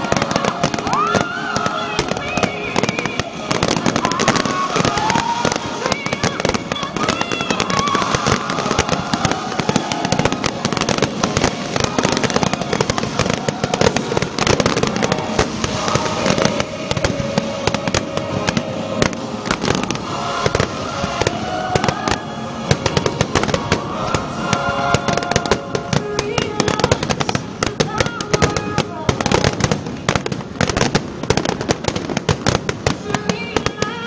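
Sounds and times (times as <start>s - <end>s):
fireworks bursts and crackling: 0.0s - 34.0s.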